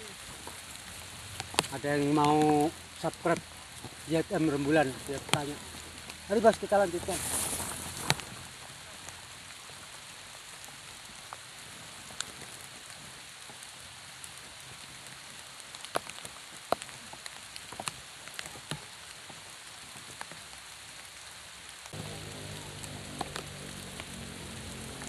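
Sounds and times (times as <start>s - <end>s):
rain falling on water and grass: 0.0s - 25.0s.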